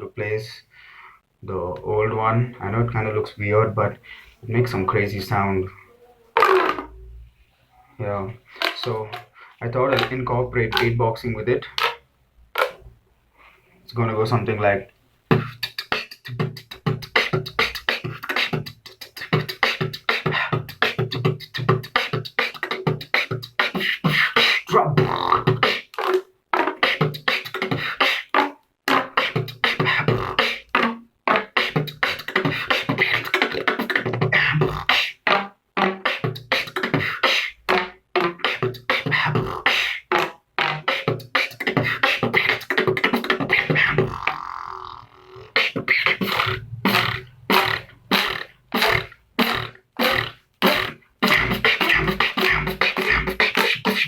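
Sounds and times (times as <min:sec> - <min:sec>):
beatboxing: 0:06.4 - 0:07.2, 0:08.2 - 0:12.0, 0:12.6 - 0:12.9, 0:15.3 - 0:54.0.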